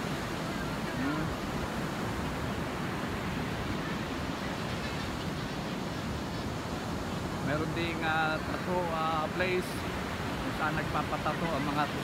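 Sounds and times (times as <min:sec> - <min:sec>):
sea surf rushing on beach: 0:00.0 - 0:12.0.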